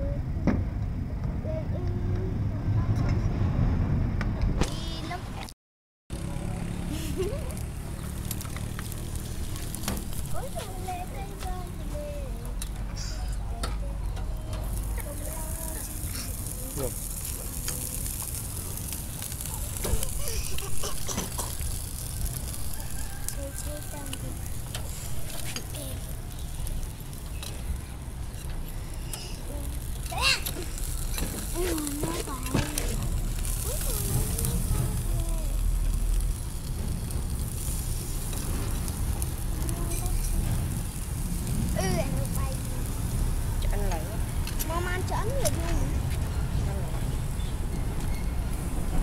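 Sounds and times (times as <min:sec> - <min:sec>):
fire crackling and popping: 0:06.1 - 0:49.0
low rumble: 0:06.2 - 0:30.0, 0:30.6 - 0:49.0
snails sizzling on a grill: 0:06.2 - 0:49.0.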